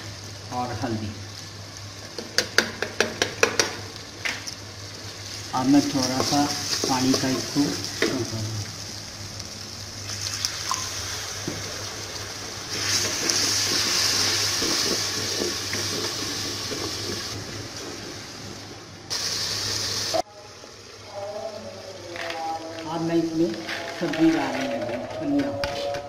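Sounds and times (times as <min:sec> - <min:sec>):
masala sizzling in hot oil: 0:00.0 - 0:21.2.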